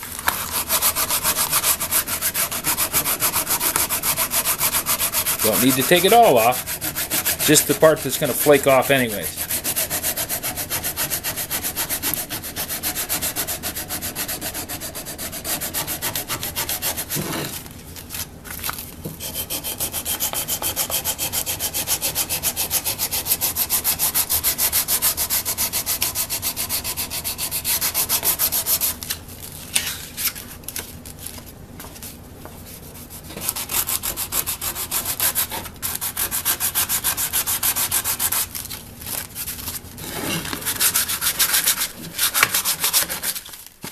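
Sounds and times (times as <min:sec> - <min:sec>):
sandpaper rubbing on wood: 0:00.2 - 0:17.5, 0:19.2 - 0:29.0, 0:32.9 - 0:38.6, 0:40.0 - 0:43.4.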